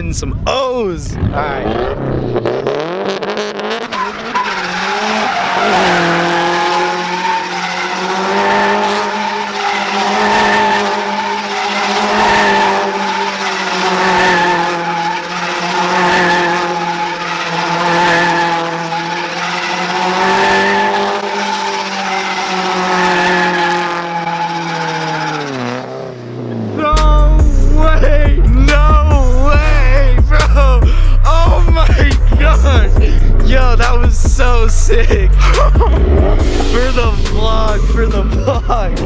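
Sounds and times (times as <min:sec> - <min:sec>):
tyres skidding and squealing: 0:00.0 - 0:39.0
car engine at high revs: 0:01.1 - 0:39.0.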